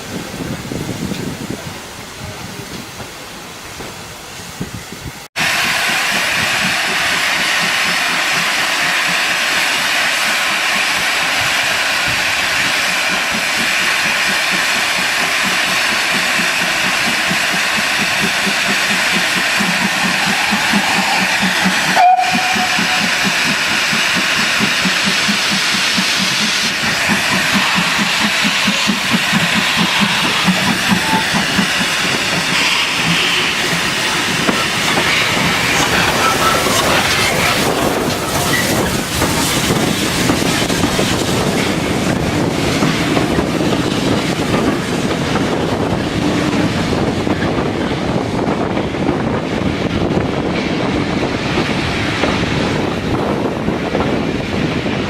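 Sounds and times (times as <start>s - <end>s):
steam locomotive hissing: 0.0s - 55.0s.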